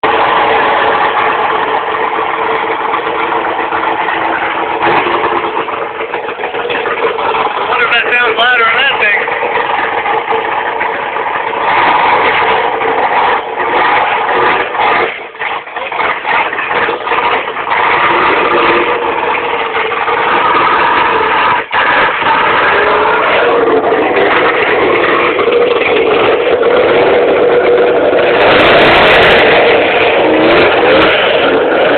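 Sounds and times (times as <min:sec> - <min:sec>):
car engine idling loud: 0:00.0 - 0:31.9.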